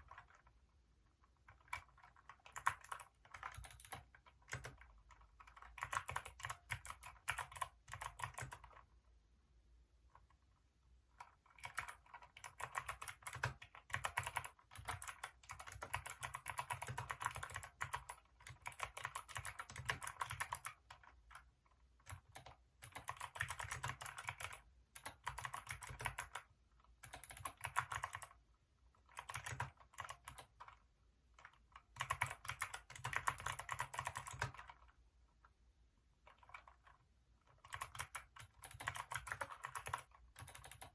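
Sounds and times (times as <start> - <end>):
keyboard typing: 0.0 - 0.6, 1.2 - 8.9, 11.1 - 28.4, 29.0 - 35.0, 36.2 - 40.9.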